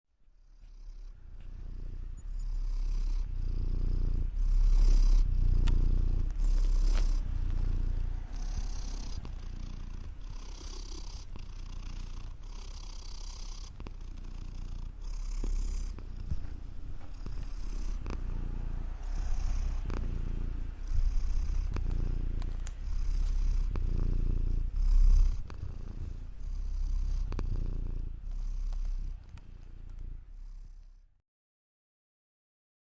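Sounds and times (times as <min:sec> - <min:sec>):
cat purring: 0:00.2 - 0:31.2.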